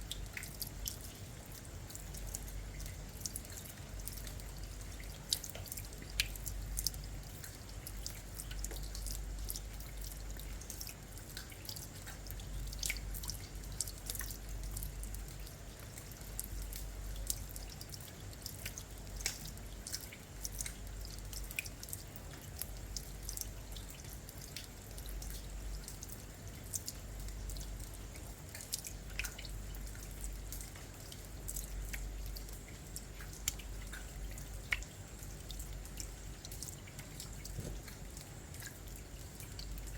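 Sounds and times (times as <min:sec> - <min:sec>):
rain dripping and hissing: 0:00.0 - 0:39.9.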